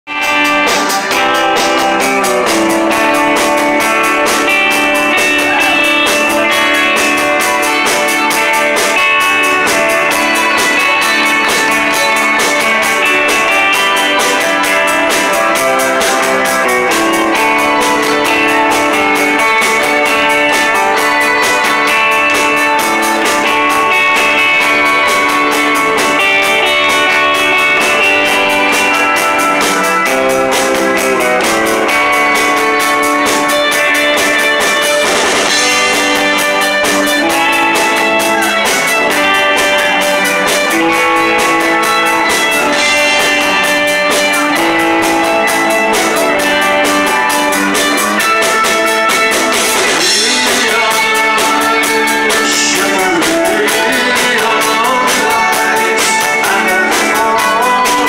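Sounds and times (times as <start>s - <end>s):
bass guitar: 0.0s - 58.0s
electric guitars: 0.0s - 58.0s
drum kit beat: 0.1s - 58.0s.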